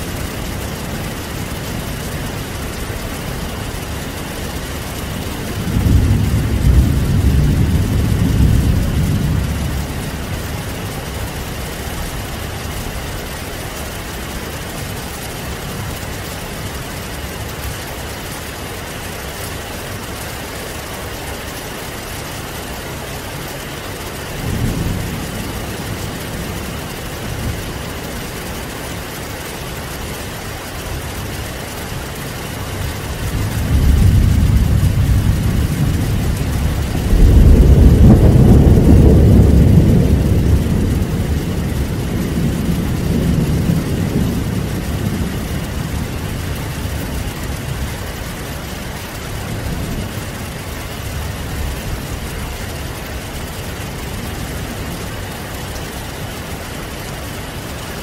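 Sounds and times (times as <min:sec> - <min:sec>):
thunder rolling: 0:00.0 - 0:19.4, 0:20.0 - 0:57.6
heavy rain: 0:00.0 - 0:58.0.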